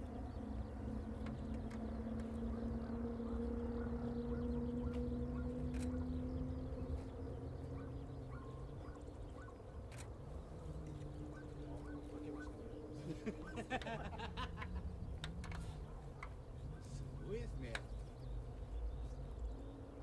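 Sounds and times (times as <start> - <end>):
bird calls: 0.0 - 20.0
distant jet taxiing rumble: 0.0 - 20.0.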